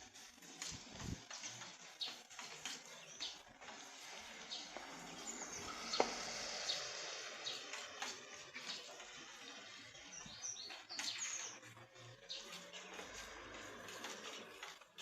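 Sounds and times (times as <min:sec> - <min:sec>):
bird chirping: 0:01.0 - 0:14.8.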